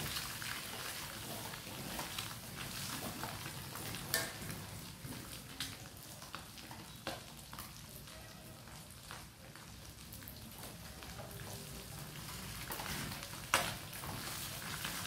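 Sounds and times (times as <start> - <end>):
eggs sizzling in a pan: 0.0 - 15.0.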